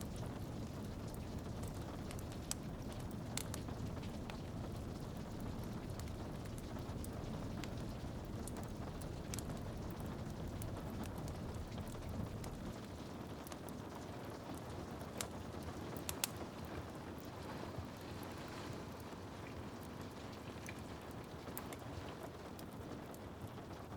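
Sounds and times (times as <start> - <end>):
rain on a window: 0.0 - 23.9
wood fire crackling: 0.0 - 23.9.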